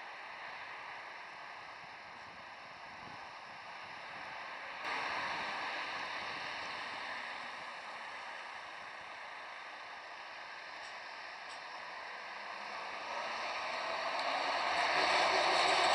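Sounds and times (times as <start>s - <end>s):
car tyres hissing on asphalt: 0.0s - 15.9s.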